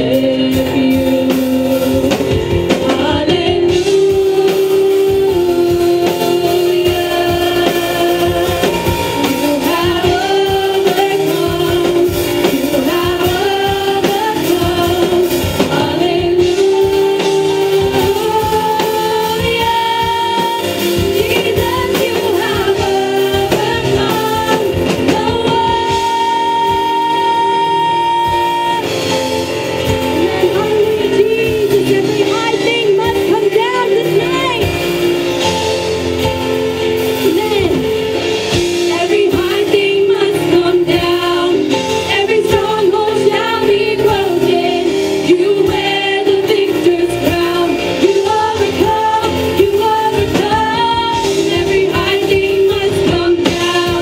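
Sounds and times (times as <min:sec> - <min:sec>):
women singing worship song: 0:00.0 - 0:34.9, 0:36.7 - 0:54.0.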